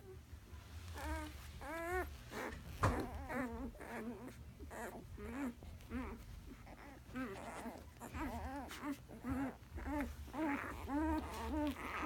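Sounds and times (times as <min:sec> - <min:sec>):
puppies squeaking and whimpering: 0:00.6 - 0:12.0.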